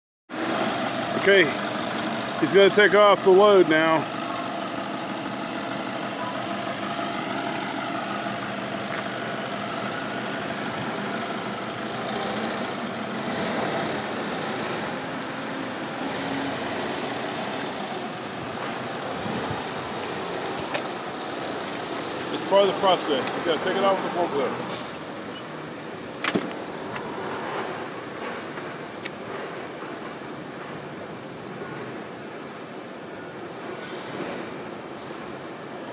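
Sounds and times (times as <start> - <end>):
forklift engine running: 0.3 - 33.6
truck idling: 0.3 - 33.6.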